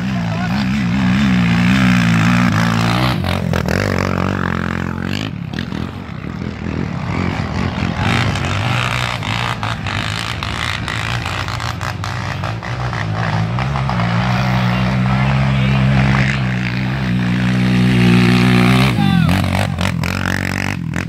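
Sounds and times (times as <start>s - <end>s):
quad engine revving: 0.0s - 21.0s.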